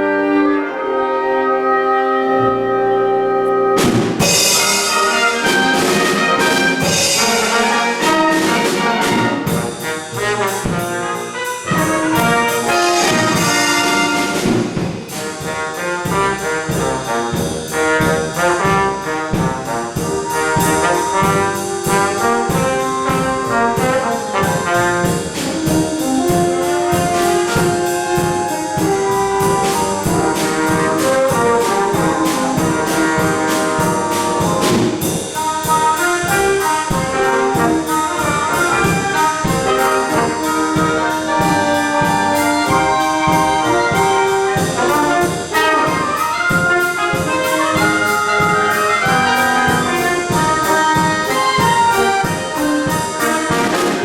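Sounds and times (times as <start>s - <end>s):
orchestra playing with brass: 0.0s - 54.0s.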